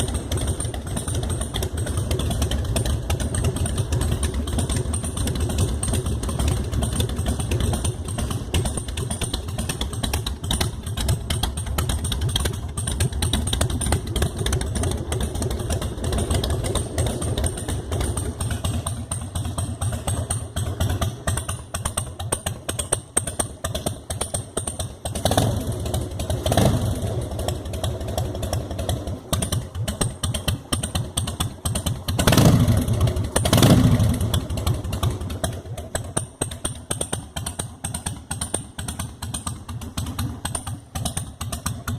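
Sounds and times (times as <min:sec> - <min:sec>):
motorcycle engine idling: 0:00.0 - 0:41.9
motorcycle engine revving: 0:00.0 - 0:41.9.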